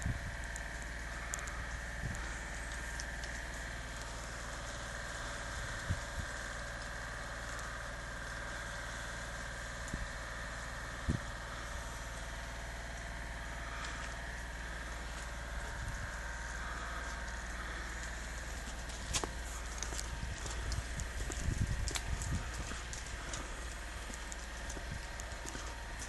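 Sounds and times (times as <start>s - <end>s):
low droning hum: 0.0s - 26.0s.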